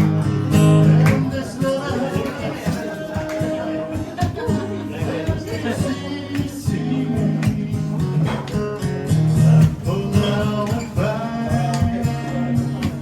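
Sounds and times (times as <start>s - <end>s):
person singing: 0.0s - 8.5s, 9.3s - 13.0s
acoustic guitar strumming: 0.0s - 13.0s.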